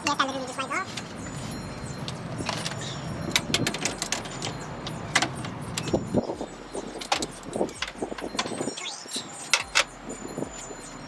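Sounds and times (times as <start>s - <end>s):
hand tools clinking and knocking: 0.1s - 11.0s.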